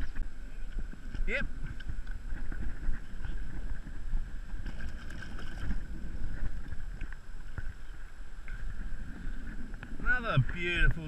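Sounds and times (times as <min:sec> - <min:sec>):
wind buffeting microphone: 0:00.0 - 0:11.0
shallow water sloshing: 0:00.7 - 0:10.6.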